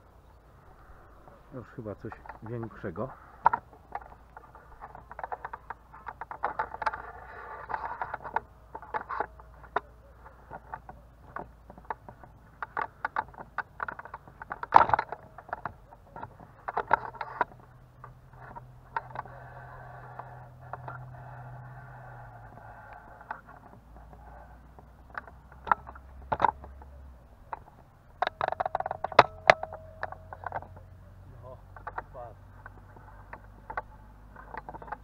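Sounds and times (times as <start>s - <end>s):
low steady hum: 0.0s - 35.0s
fishing tackle clicking and rattling: 2.0s - 35.0s.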